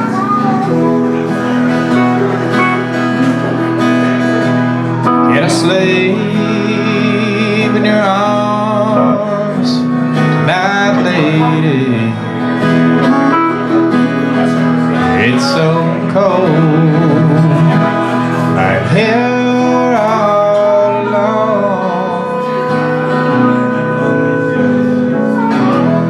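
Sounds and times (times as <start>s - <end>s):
country band instrumental: 0.0s - 26.0s
strummed acoustic guitar: 0.0s - 26.0s.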